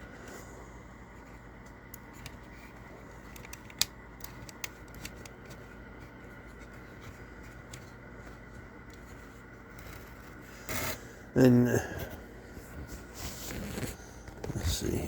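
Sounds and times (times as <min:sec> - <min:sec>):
faint steady background hum: 0:00.0 - 0:15.0.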